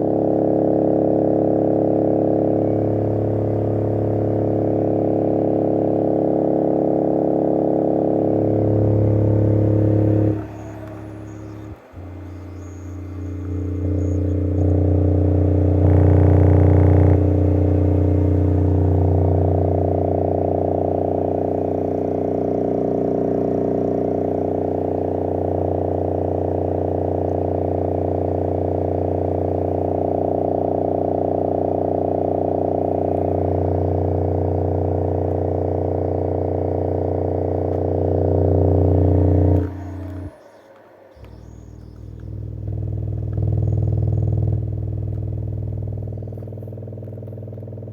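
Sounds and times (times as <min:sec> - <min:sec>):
loudspeaker low bass tone: 0:00.0 - 0:40.4, 0:41.2 - 0:47.9.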